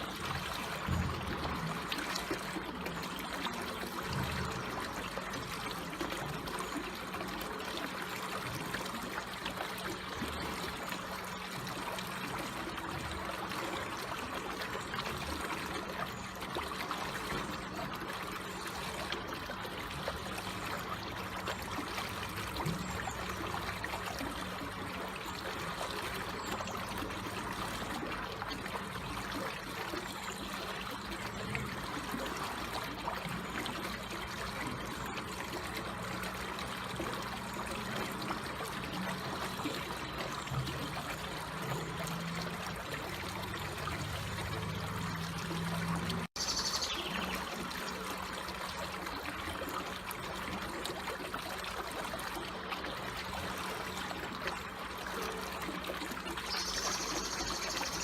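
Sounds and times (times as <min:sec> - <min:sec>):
trickling stream: 0:00.0 - 0:58.0.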